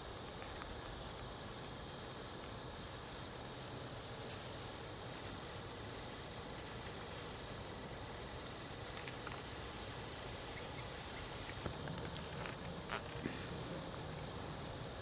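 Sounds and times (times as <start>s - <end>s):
steady woodland hiss: 0.0s - 15.0s.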